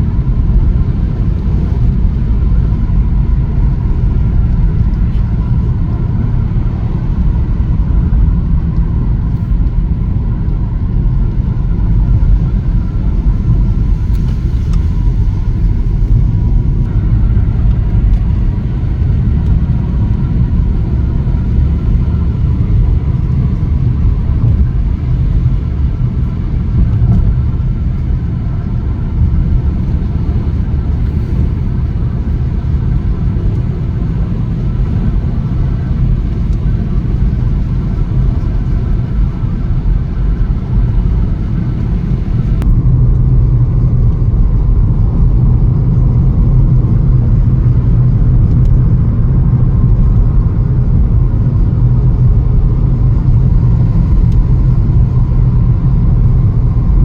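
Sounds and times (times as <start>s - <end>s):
loud low rumble: 0.0s - 57.0s.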